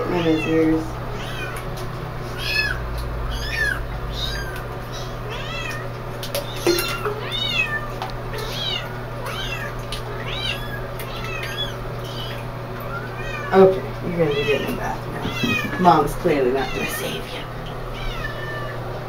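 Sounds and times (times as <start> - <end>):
kittens mewing: 0.0 - 18.8.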